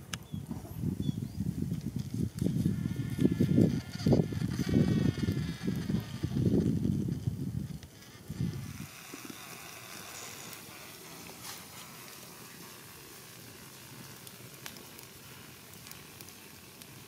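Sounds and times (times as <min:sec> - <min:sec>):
snails sizzling over fire: 0:00.0 - 0:17.0.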